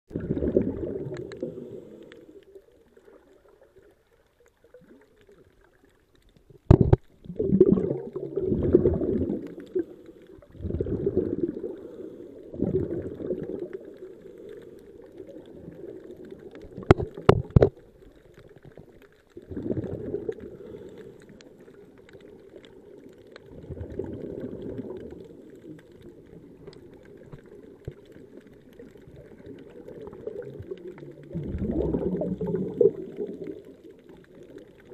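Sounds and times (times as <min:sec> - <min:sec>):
underwater regulator bubbles: 0:00.1 - 0:34.9.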